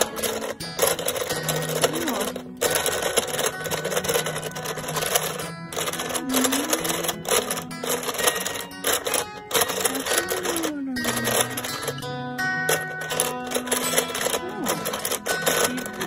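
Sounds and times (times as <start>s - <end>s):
background music: 0.0s - 16.0s
bracelet maker motor running: 0.0s - 16.0s.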